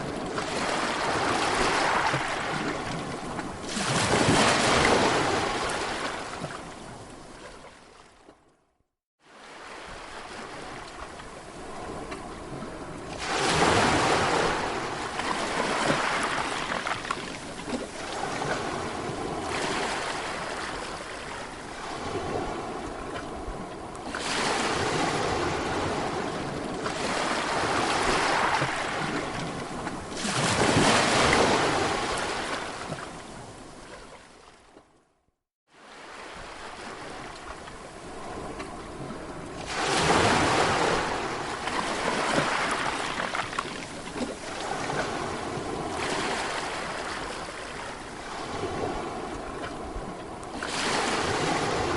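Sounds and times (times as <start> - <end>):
sea waves breaking: 0.0 - 8.4, 9.2 - 34.9, 35.7 - 51.9.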